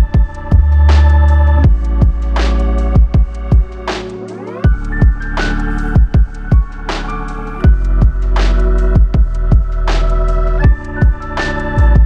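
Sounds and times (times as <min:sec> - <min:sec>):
deep kick drums: 0:00.0 - 0:04.1, 0:04.7 - 0:07.0, 0:07.6 - 0:12.0
organ-like synth chords: 0:00.0 - 0:12.0.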